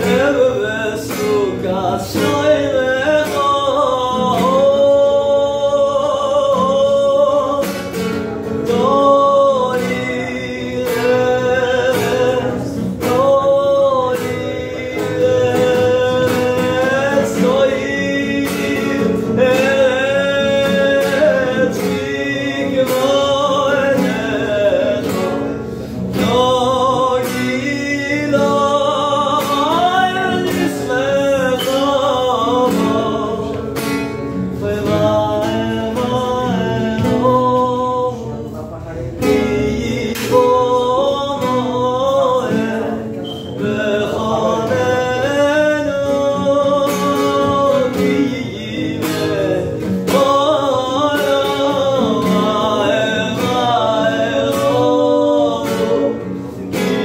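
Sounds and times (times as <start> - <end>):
acoustic guitar strumming: 0.0 - 57.0
man singing: 0.0 - 57.0.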